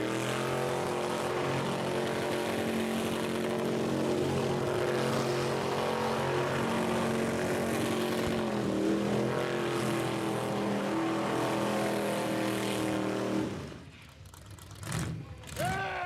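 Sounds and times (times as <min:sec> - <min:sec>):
car engine at high revs: 0:00.0 - 0:15.6.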